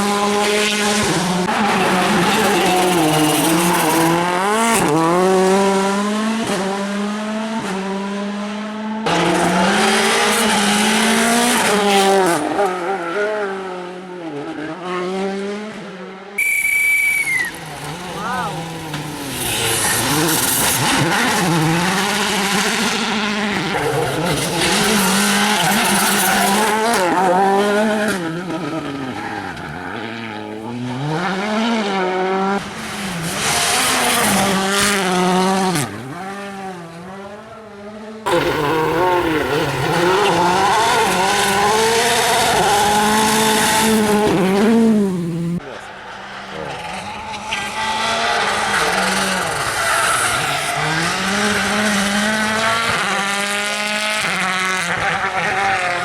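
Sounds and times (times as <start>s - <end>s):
rally car engine revving hard: 0.0s - 16.3s, 17.5s - 56.0s.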